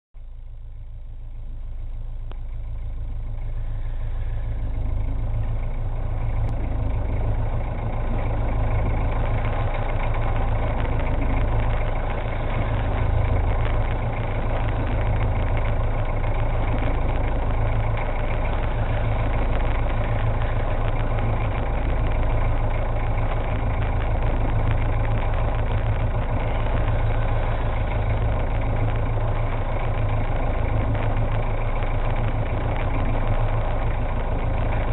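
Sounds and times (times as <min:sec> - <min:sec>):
boat engine idling: 0:00.2 - 0:34.9.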